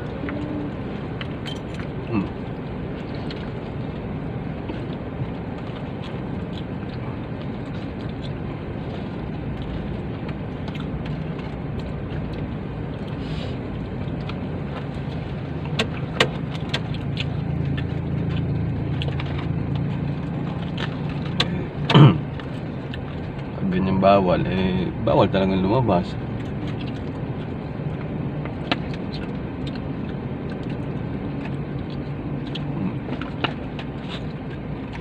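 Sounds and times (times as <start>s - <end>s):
car engine humming: 0.0s - 35.0s.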